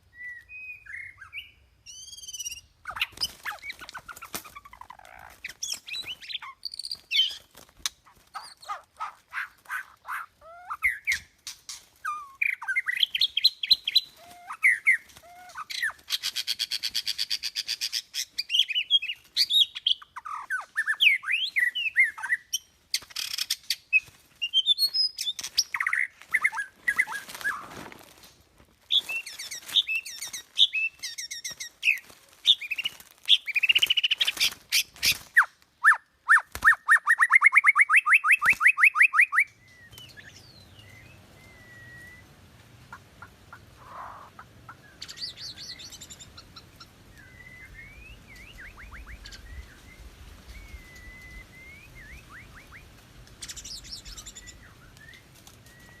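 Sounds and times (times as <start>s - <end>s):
bird singing: 0.0s - 27.7s, 28.9s - 56.0s.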